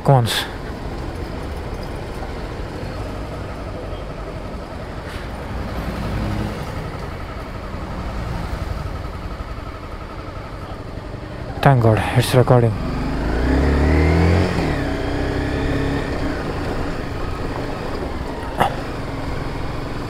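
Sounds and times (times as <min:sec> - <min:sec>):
motorcycle engine hum: 0:00.0 - 0:20.0
wind and road noise: 0:00.0 - 0:20.0
car passing rumble: 0:00.6 - 0:20.0.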